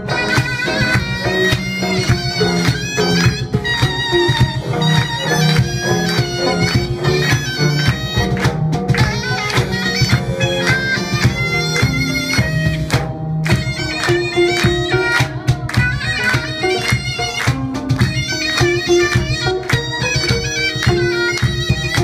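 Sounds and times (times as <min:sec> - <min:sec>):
drum strokes: 0:00.0 - 0:22.0
reedy wind instrument melody: 0:00.0 - 0:22.0.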